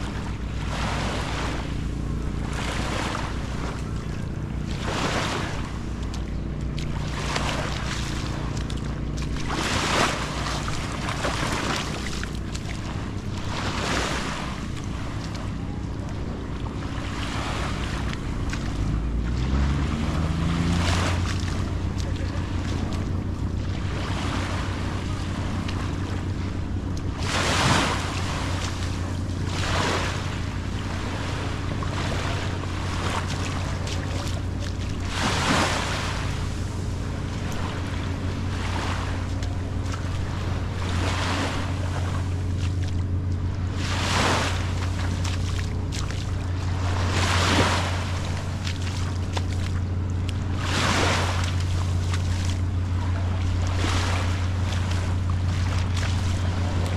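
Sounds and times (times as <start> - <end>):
small waves washing onto sand: 0.0 - 56.9
steady low drone: 0.0 - 56.9.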